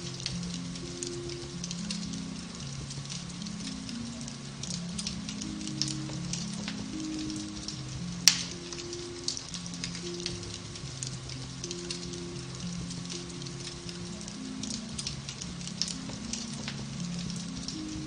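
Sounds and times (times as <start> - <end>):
fire popping: 0.0 - 18.0
soft slow background music: 0.0 - 18.0
wood fire crackling: 0.0 - 18.0.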